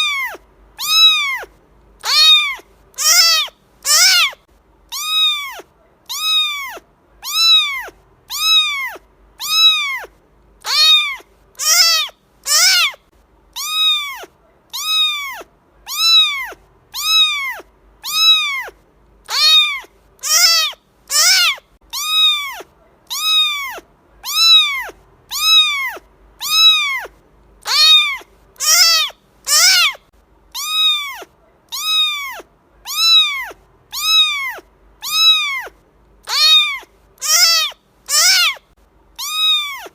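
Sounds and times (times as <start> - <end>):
cat meowing: 0.0 - 13.0, 13.6 - 38.6, 39.2 - 39.9.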